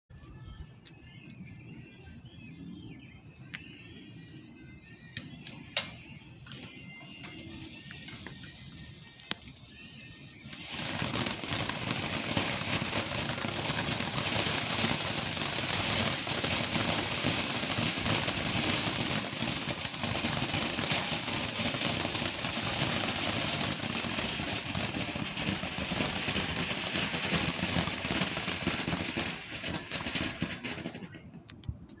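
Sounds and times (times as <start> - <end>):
firework fountain hissing and crackling: 5.5 - 31.3.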